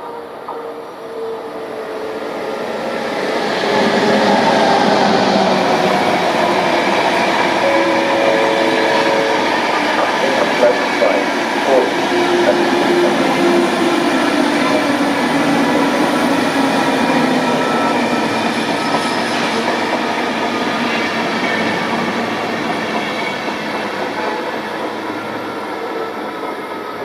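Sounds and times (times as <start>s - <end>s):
train wheels rushing on rail: 0.0s - 27.0s.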